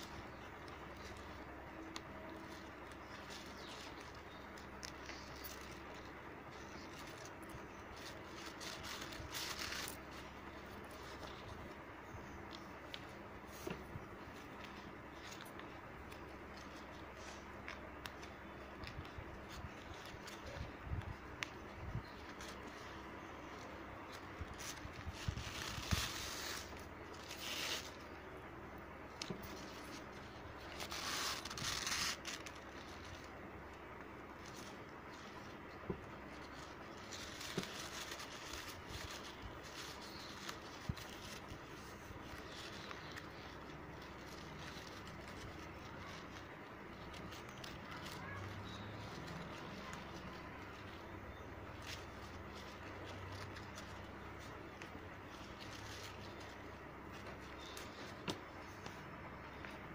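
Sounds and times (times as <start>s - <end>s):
ribbon crinkling and rustling: 0.0s - 59.9s.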